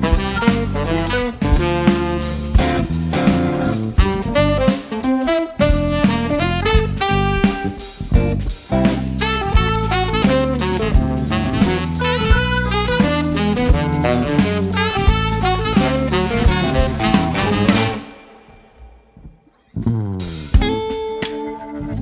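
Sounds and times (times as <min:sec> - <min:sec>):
tenor saxophone: 0:00.0 - 0:18.9
jazz-rock band playing: 0:00.0 - 0:19.0, 0:20.2 - 0:22.0.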